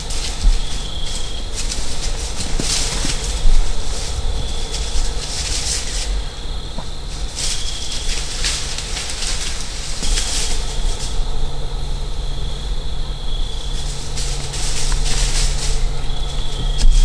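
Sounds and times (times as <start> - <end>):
gusts hissing through trees: 0.0 - 17.0
wind rumbling on microphone: 0.0 - 17.0.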